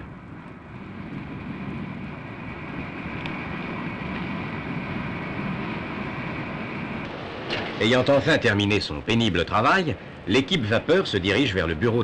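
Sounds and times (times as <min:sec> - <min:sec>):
diesel locomotive idling: 0:00.0 - 0:12.0.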